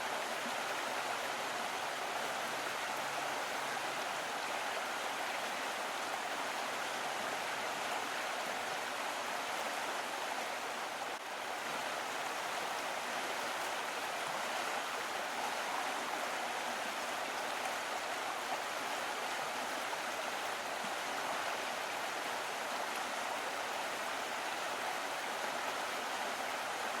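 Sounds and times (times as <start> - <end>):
small stream trickling: 0.0 - 27.0.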